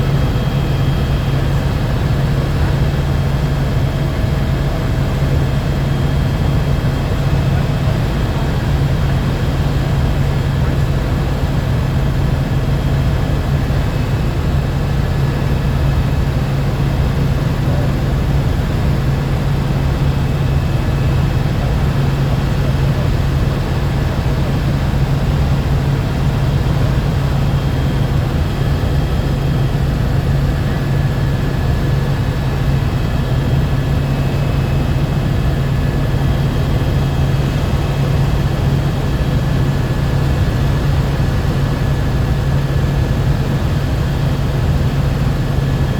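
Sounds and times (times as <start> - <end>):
helicopter cabin drone: 0.0 - 45.9.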